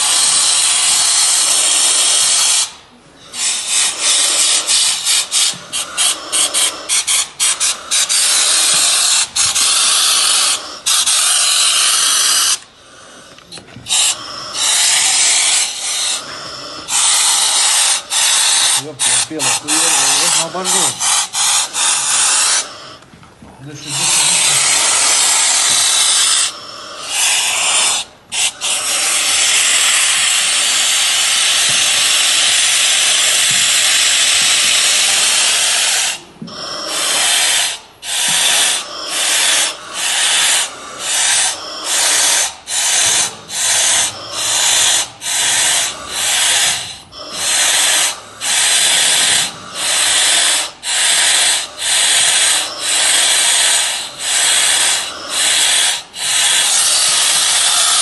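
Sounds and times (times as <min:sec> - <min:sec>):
oxygen hissing from mask: 0:00.0 - 0:23.0, 0:23.7 - 0:58.0.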